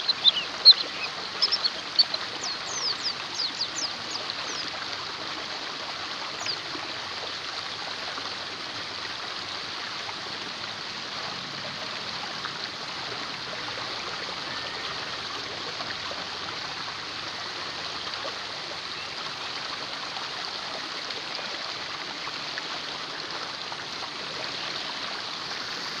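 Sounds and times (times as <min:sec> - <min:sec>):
stream flowing: 0:00.0 - 0:26.0.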